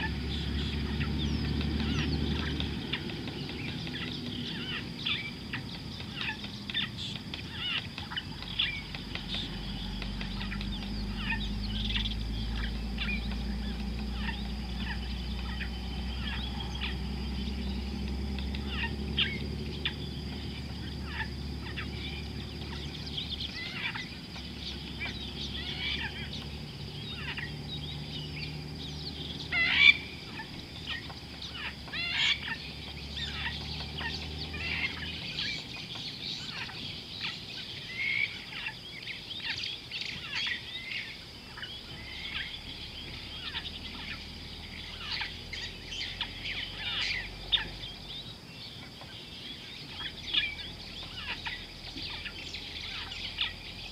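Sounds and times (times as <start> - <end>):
birds chirping and calling: 0.0 - 53.9.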